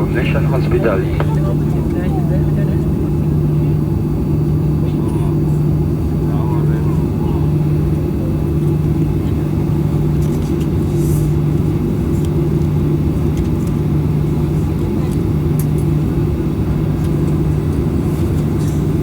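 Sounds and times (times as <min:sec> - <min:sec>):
aircraft cabin drone: 0:00.0 - 0:19.0.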